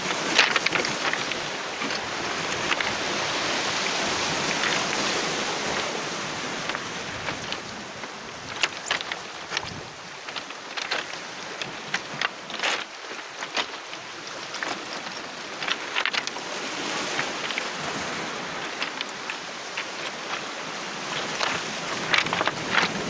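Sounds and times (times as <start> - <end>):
stones knocking underfoot: 0.0 - 23.0
waves washing onto pebbles: 0.0 - 23.0.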